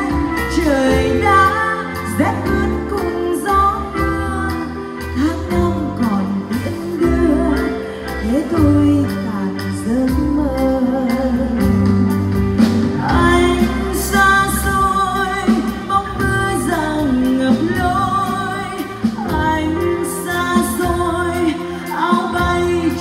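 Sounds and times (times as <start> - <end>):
live band playing: 0.0 - 23.0
woman singing a ballad: 0.0 - 23.0.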